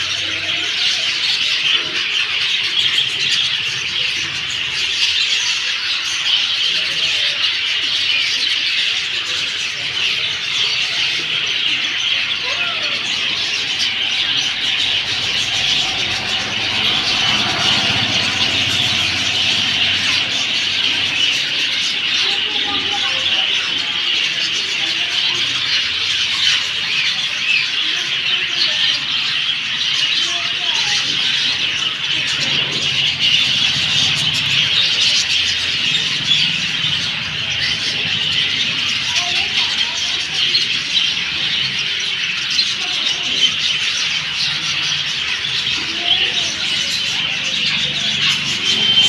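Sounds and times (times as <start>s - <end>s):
small birds chirping chorus: 0.0s - 49.0s.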